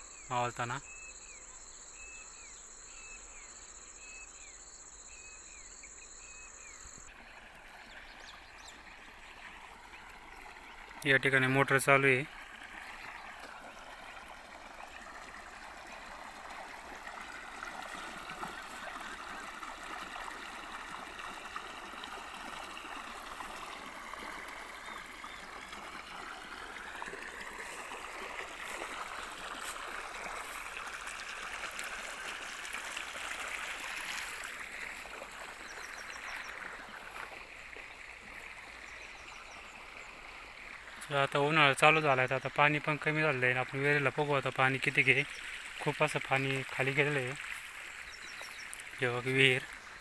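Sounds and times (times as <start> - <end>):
water gushing from pipe: 7.0 - 50.0.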